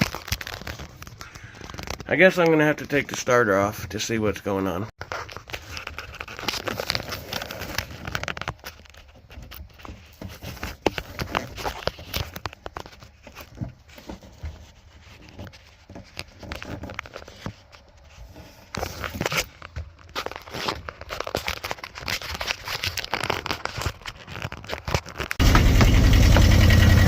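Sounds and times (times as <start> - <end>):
clicks crinkling and rustling: 0.0 - 3.7, 5.0 - 25.5.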